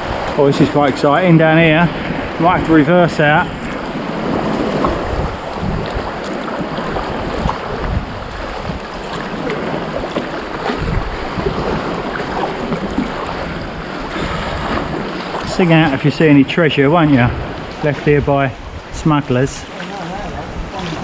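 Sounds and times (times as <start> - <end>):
sea water sloshing around kayak: 0.0 - 21.0
wind rumble on microphone: 0.0 - 21.0.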